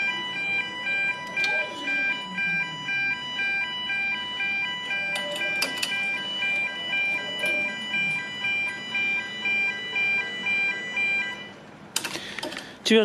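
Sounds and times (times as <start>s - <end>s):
two-tone crossing warning alarm: 0.0s - 11.6s.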